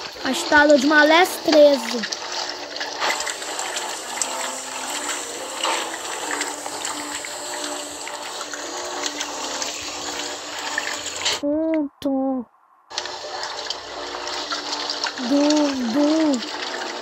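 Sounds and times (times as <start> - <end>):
washing machine sloshing water: 0.0 - 11.4, 12.9 - 17.0.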